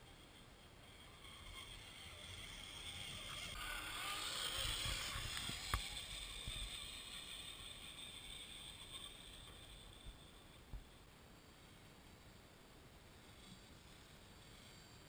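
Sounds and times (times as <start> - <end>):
toy car electric motor whirring: 0.0 - 12.4, 13.0 - 15.0.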